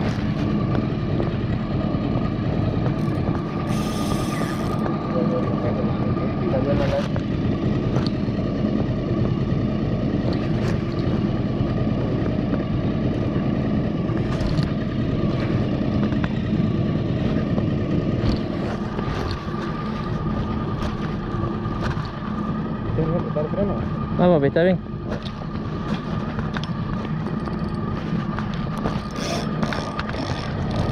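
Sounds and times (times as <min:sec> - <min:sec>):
outboard motor running: 0:00.0 - 0:30.9.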